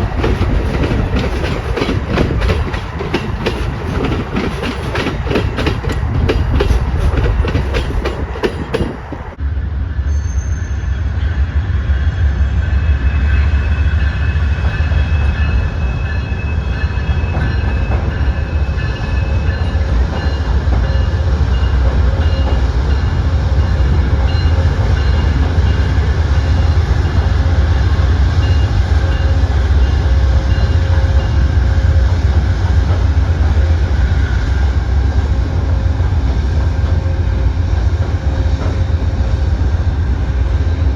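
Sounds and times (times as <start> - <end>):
train clickety-clack over rail joints: 0.0 - 9.4, 12.8 - 40.9
moving train rumbling: 0.0 - 40.9.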